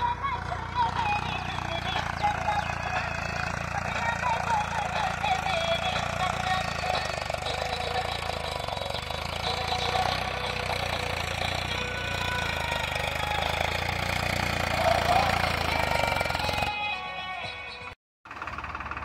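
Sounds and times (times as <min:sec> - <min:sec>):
tractor diesel engine knocking: 0:00.0 - 0:16.7, 0:18.3 - 0:19.0.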